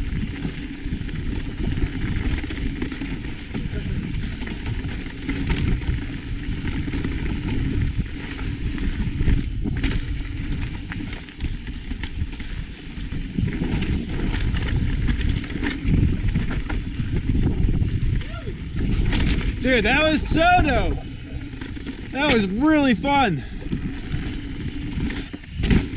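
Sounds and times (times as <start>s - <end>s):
bike clicks and rattles: 0.0s - 25.9s
wind rumble on microphone: 0.0s - 25.9s.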